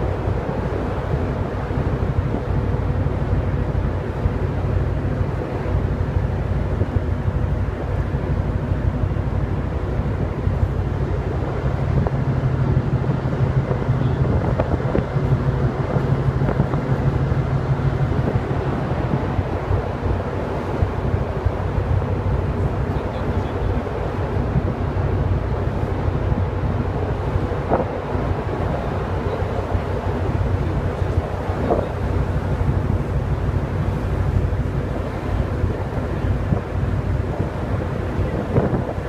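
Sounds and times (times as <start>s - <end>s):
ship engines humming: 0.0s - 39.0s
wind buffeting microphone: 0.0s - 39.0s.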